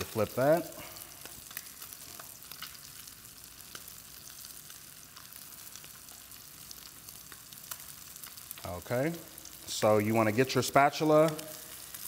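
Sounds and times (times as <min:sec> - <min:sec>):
crackling pops: 0:00.0 - 0:09.9
fish sizzling in a skillet: 0:00.0 - 0:12.0.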